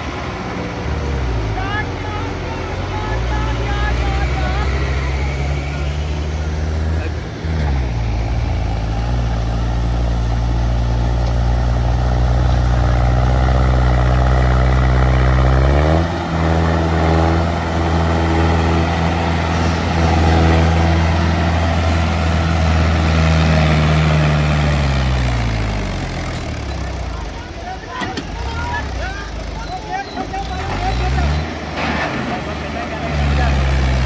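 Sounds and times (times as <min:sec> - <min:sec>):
diesel tractor engine: 0:00.0 - 0:34.0.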